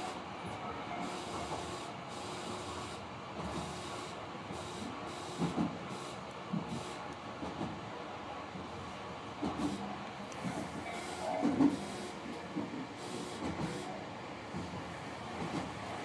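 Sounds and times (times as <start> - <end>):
train running hiss and rumble: 0.0 - 16.0.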